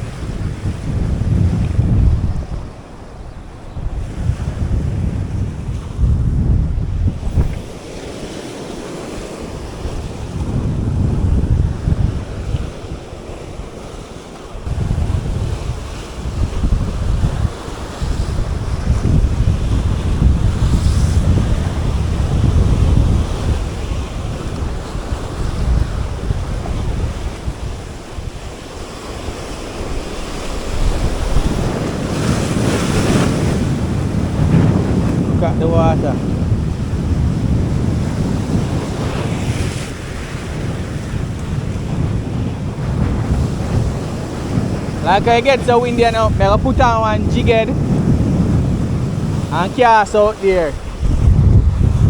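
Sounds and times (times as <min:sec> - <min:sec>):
sea surf: 0:00.0 - 0:52.0
wind buffeting microphone: 0:00.0 - 0:52.0.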